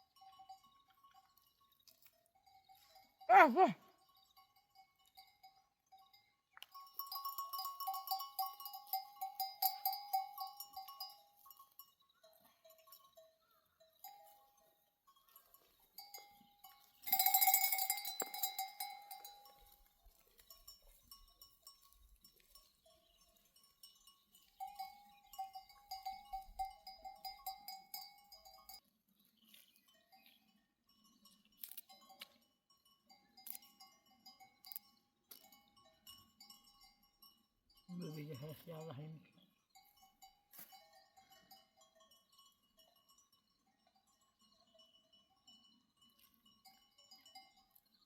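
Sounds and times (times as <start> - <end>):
animal neck bells clanking: 0.0 - 48.0.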